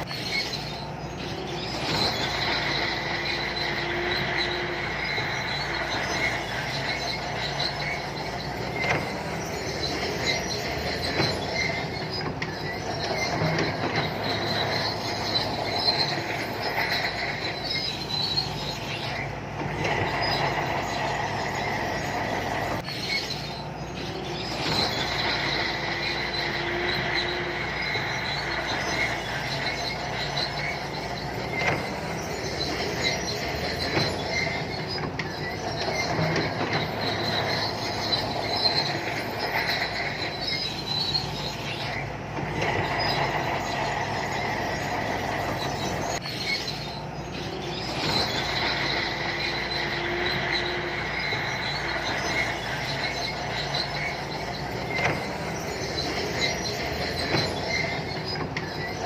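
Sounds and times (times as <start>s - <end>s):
bulldozer diesel engine running: 0.0s - 59.0s
high track squeal: 0.0s - 59.0s
steel tracks clanking: 0.0s - 59.0s.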